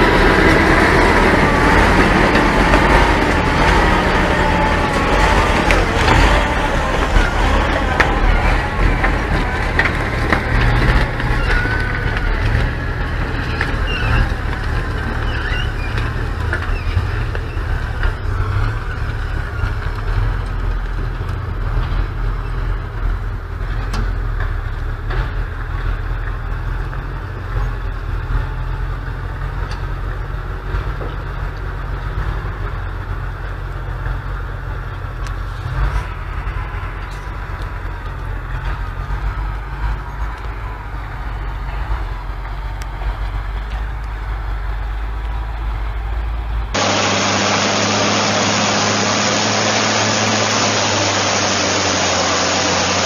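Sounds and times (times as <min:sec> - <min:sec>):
truck diesel engine droning: 0:00.0 - 0:53.0.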